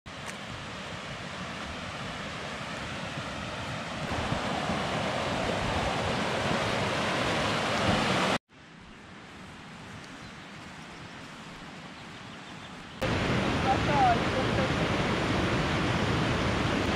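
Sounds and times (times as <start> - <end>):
rushing mountain stream: 0.1 - 16.9.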